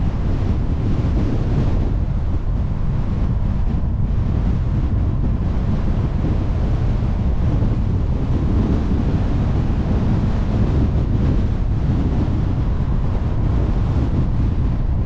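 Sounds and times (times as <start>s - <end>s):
car tyre and road noise: 0.0s - 15.0s
wind buffeting microphone: 0.0s - 15.0s.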